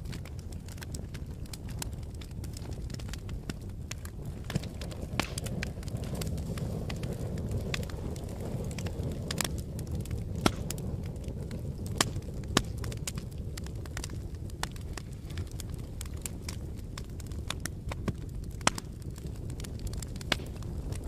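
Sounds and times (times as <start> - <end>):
sharp pops of fire: 0.0 - 21.0
wood fire crackling: 0.0 - 21.0.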